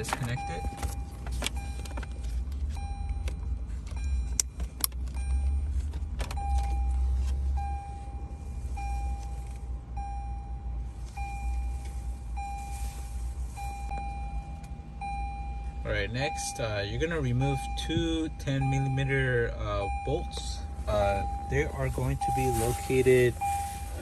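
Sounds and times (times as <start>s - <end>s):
warning chime beeping: 0.0s - 2.1s, 6.4s - 24.0s
low steady hum: 0.0s - 24.0s.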